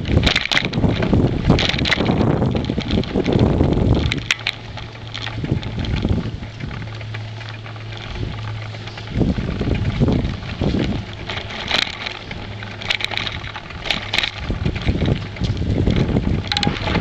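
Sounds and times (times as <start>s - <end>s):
bicycle clicks and rattles: 0.0s - 17.0s
wind buffeting microphone: 0.0s - 17.0s.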